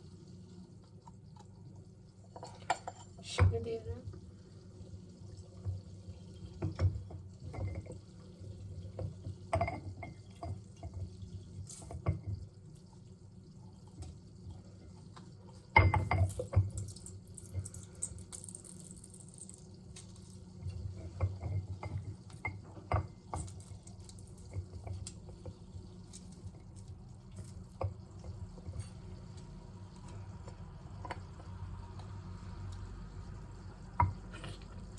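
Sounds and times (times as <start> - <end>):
juice dripping into a glass: 0.0 - 34.9
low steady hum: 0.0 - 34.9.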